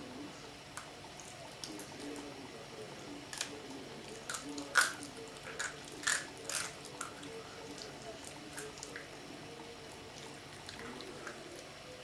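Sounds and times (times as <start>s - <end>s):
puppy chewing and crunching leaf: 0.8s - 12.0s.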